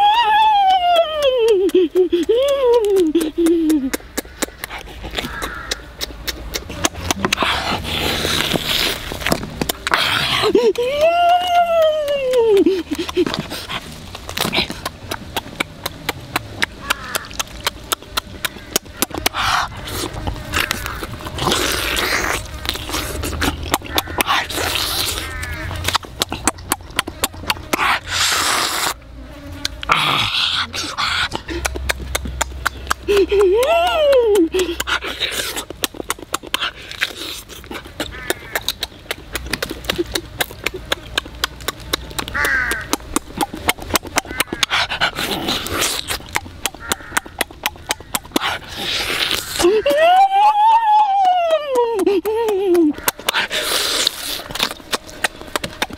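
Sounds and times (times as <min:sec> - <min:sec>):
wet chewing and lip smacks: 0:00.6 - 0:49.9, 0:51.0 - 0:55.9
breathy slurps: 0:01.6 - 0:18.6, 0:19.2 - 0:29.0, 0:29.6 - 0:49.8, 0:52.0 - 0:55.9.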